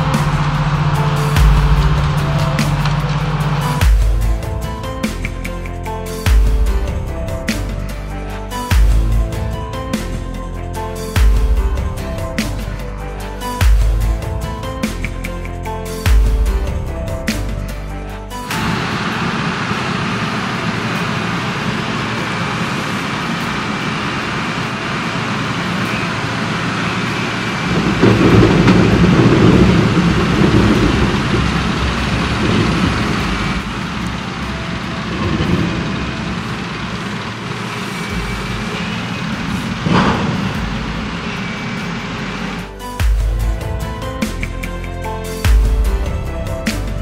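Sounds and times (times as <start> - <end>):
harvester machinery noise: 0.0 - 15.5, 16.7 - 42.9.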